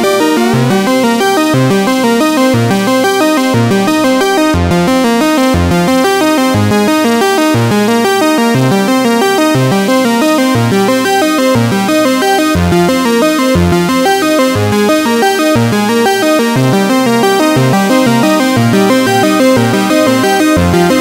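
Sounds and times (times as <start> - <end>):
background music with bass line: 0.0 - 21.0.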